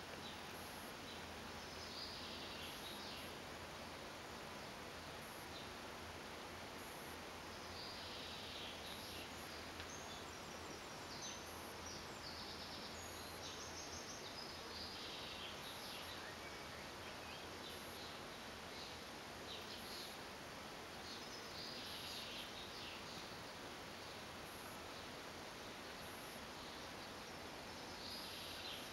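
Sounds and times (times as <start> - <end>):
small birds chirping: 0.0 - 3.4, 6.8 - 28.9
steady hiss: 0.0 - 28.9.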